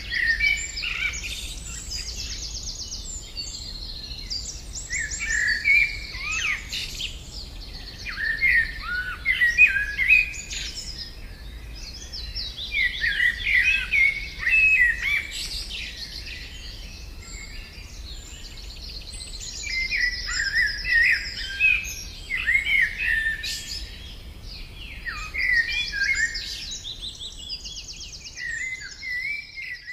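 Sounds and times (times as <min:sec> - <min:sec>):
songbirds singing: 0:00.0 - 0:29.9.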